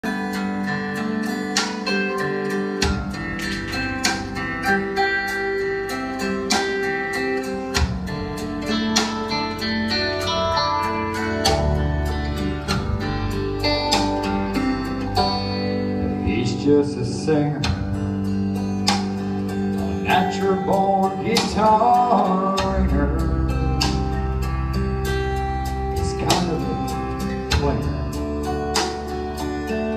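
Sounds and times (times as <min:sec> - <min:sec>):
guitar: 0:00.0 - 0:29.9
live blues band: 0:00.0 - 0:29.9
low bass: 0:02.8 - 0:29.9.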